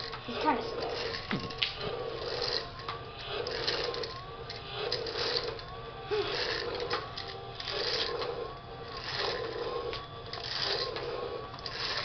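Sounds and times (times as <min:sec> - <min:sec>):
toy gear motor whirring: 0:00.0 - 0:12.0.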